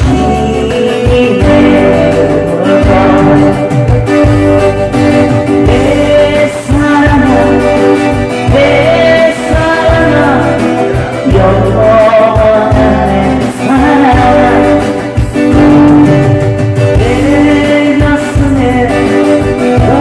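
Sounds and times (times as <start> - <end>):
gliding lead melody: 0.0 - 20.0
guitar chords: 0.0 - 20.0
steady bass line: 0.0 - 20.0.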